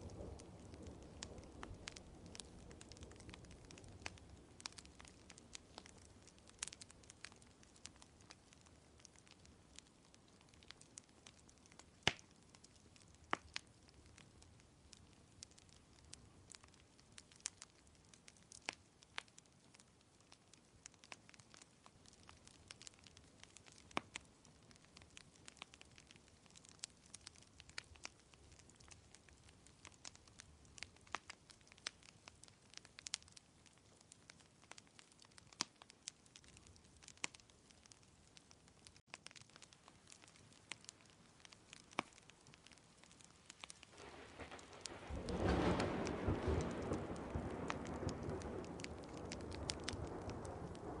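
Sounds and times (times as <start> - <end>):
faint steady hiss: 0.0 - 51.0
wood fire crackling: 0.0 - 51.0.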